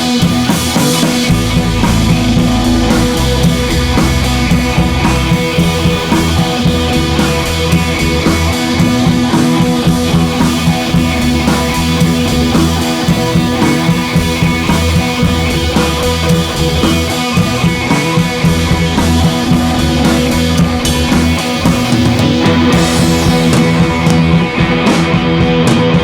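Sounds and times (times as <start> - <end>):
rock music with guitar and drums: 0.0 - 26.0.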